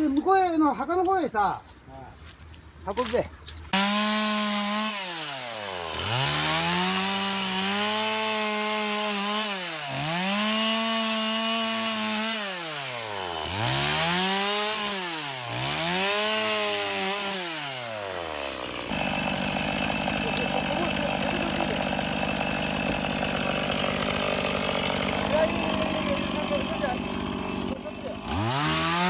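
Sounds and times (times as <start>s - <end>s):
chainsaw revving: 3.7s - 29.0s.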